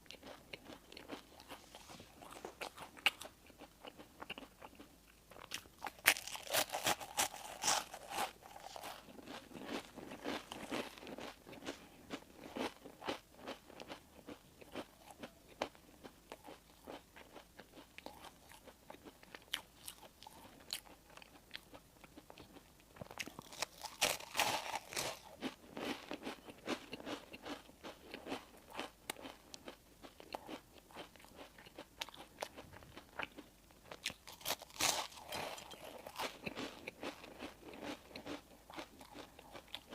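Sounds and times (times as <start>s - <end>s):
crunchy chewing of crisp bread: 0.0s - 39.9s.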